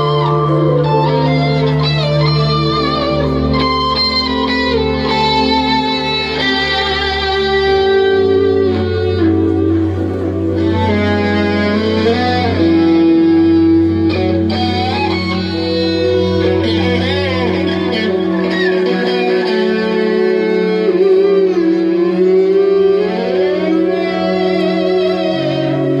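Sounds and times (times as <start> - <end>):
electric guitar bending notes: 0.0 - 26.0
sustained low chords: 0.0 - 26.0.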